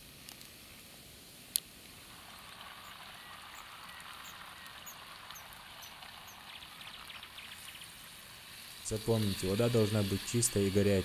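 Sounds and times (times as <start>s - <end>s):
campfire hissing: 0.0s - 11.0s.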